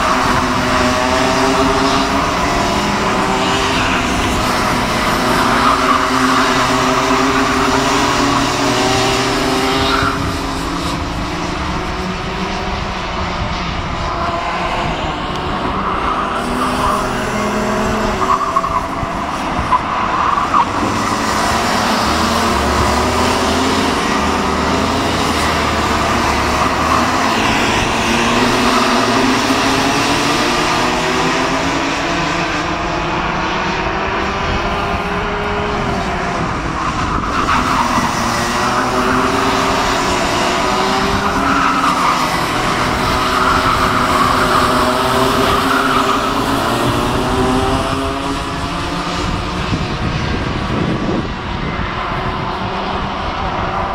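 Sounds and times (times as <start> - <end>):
kart engines racing: 0.0 - 53.9.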